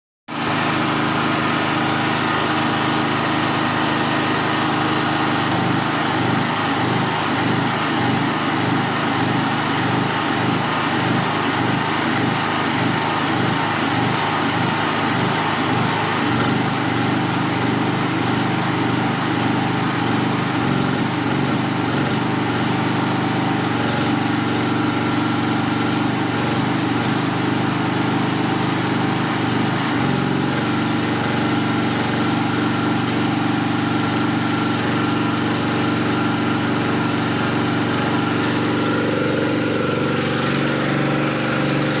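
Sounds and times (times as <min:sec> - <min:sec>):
generator engine running: 0:00.3 - 0:42.0.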